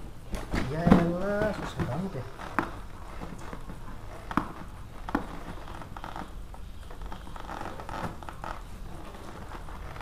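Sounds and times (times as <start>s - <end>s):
packing tape tearing off cardboard: 0.3s - 10.0s.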